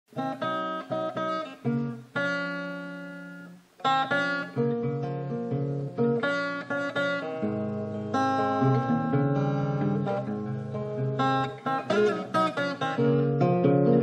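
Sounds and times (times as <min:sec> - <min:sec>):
acoustic guitar strumming chords: 0:00.1 - 0:14.0.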